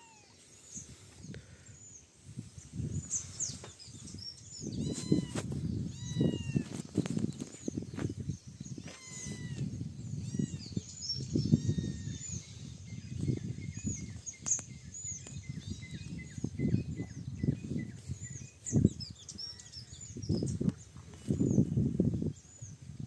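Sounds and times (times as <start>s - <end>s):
small birds chirping: 0.0s - 22.8s.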